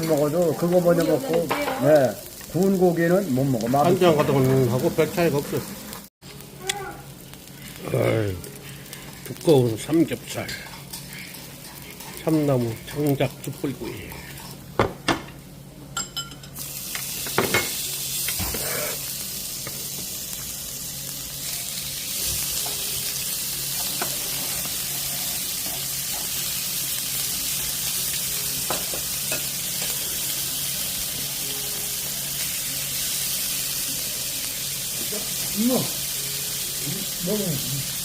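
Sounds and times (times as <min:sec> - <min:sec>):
pork sizzling on a grill: 0:00.0 - 0:38.0.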